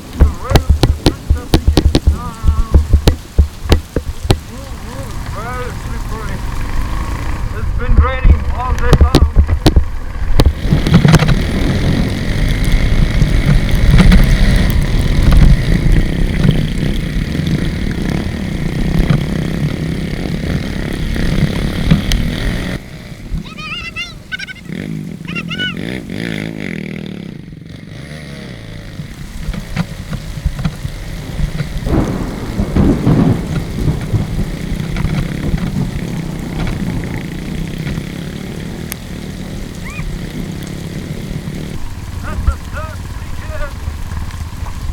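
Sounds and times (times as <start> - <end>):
wind buffeting microphone: 0.0 - 25.0, 29.2 - 44.9
motorcycle engine running: 0.0 - 44.9
road noise: 0.0 - 44.9.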